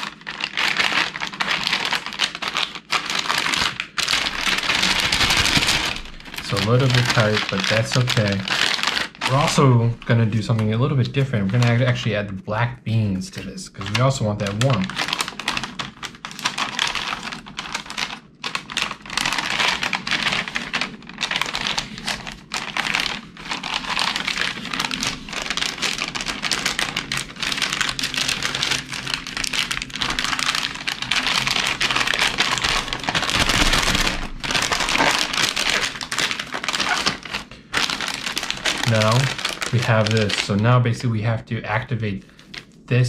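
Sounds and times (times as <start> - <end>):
plastic pouches crinkling: 0.0 - 42.8.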